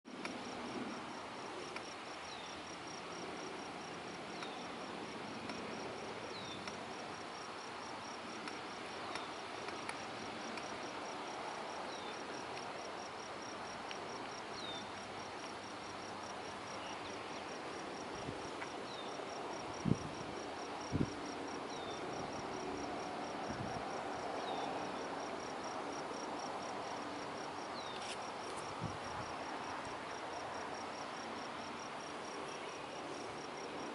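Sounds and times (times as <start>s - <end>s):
insects trilling: 0.2s - 33.9s.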